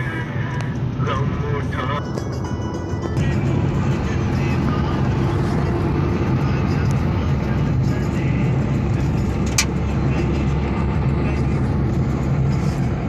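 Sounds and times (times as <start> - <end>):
road and wind rumble: 0.0 - 13.0.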